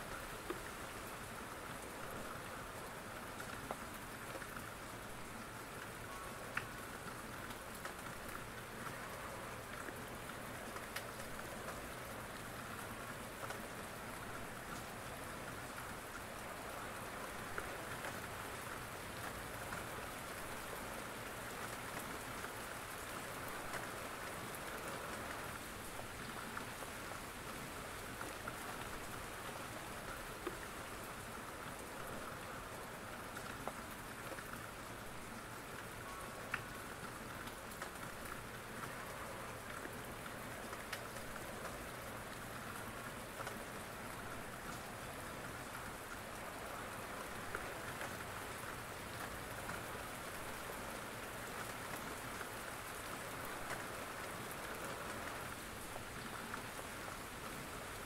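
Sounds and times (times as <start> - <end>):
sharp rain ticks: 0.0 - 58.0
steady rain hiss: 0.0 - 58.0.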